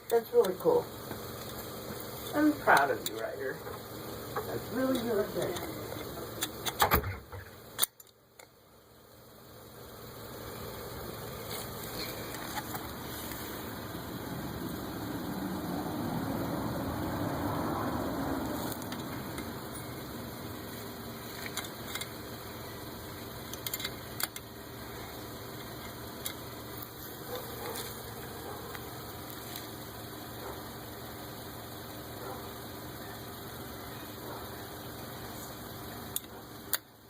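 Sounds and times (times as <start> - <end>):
mechanical hum: 0.0 - 37.0.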